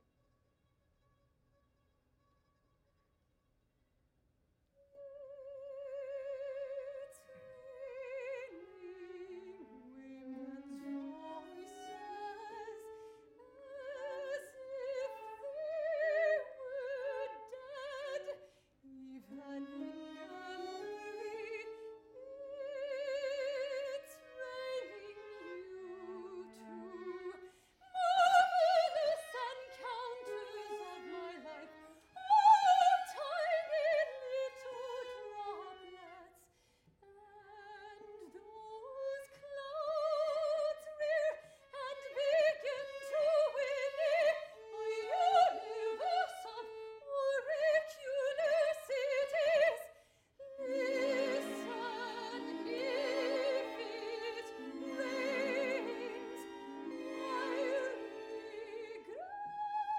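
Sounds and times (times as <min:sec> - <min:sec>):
string orchestra: 0:04.9 - 0:59.9
operatic soprano singing: 0:05.1 - 0:36.4, 0:37.0 - 0:59.9.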